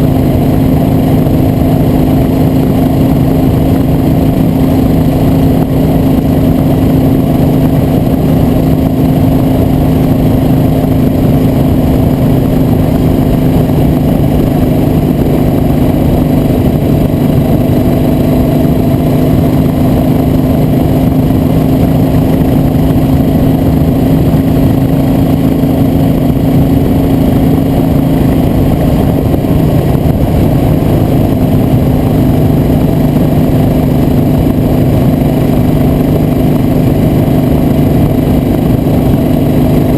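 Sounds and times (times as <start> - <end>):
road and wind noise: 0.0 - 39.9
vehicle engine droning: 0.0 - 39.9.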